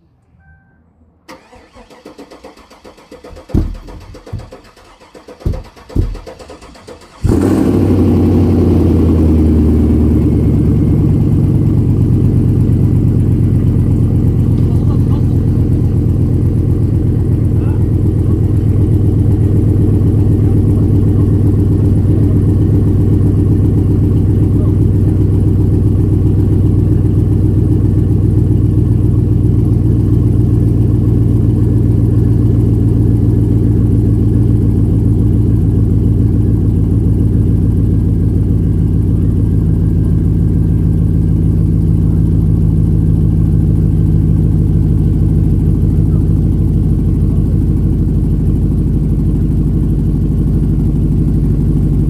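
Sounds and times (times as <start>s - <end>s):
engine idling: 1.3s - 52.0s.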